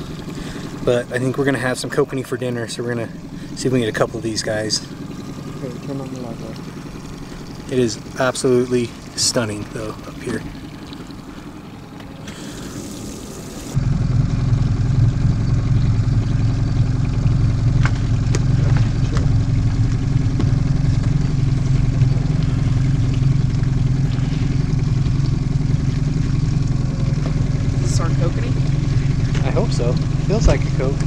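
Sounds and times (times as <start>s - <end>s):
boat motor droning: 0.0s - 31.0s.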